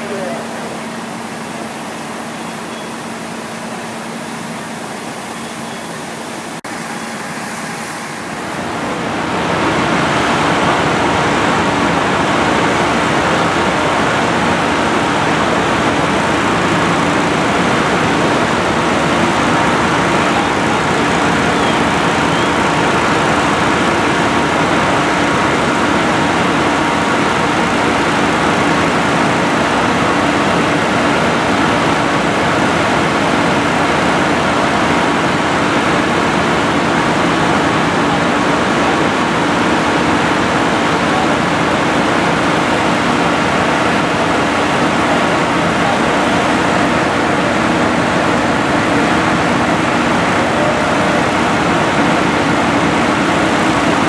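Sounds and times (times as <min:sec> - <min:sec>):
diesel engine and pump hum: 0:00.0 - 0:54.0
rushing noise: 0:00.0 - 0:54.0.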